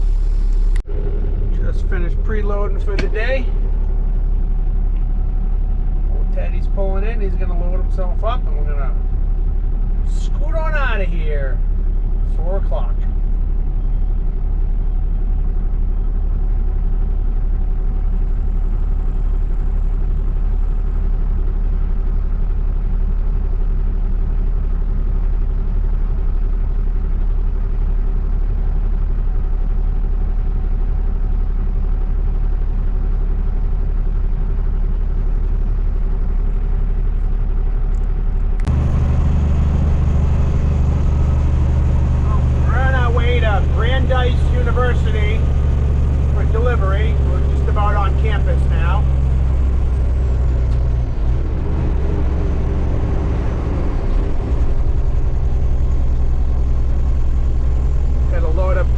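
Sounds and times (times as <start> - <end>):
diesel truck engine droning: 0.0 - 58.9.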